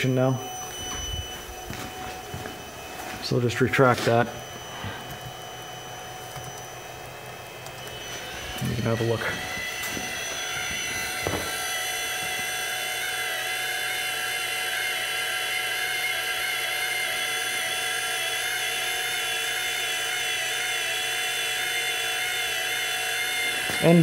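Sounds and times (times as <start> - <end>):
die grinder whine: 0.0 - 24.0.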